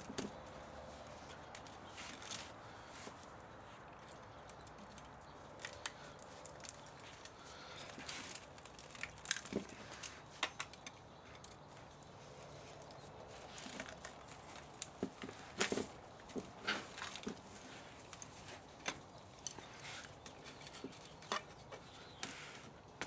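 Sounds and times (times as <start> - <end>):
hand tools clicking and scraping: 0.0 - 23.0.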